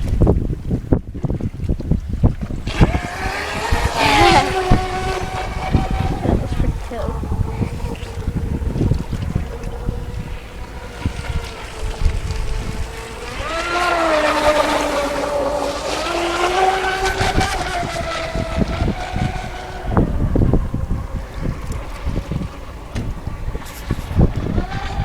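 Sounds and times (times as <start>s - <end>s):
electric motor whine of boat: 0.0s - 25.0s
wind rumble on microphone: 0.0s - 25.0s.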